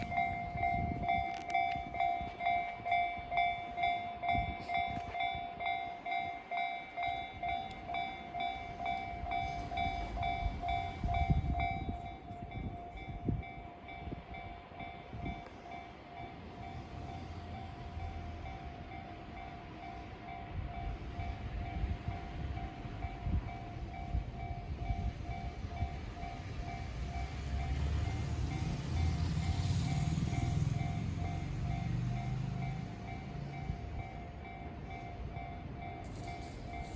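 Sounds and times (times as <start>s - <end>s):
level-crossing bell ringing: 0.0s - 36.9s
train wheels rumbling on rails: 0.0s - 36.9s.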